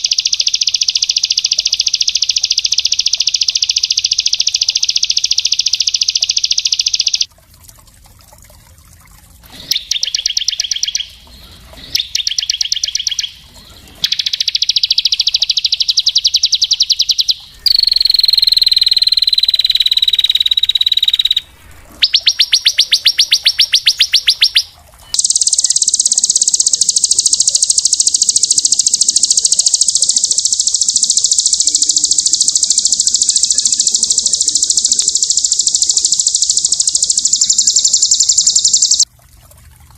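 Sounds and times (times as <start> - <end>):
bird whistle: 0.0 - 7.3, 9.6 - 39.1
songbird trilling: 0.0 - 7.3, 9.6 - 39.1.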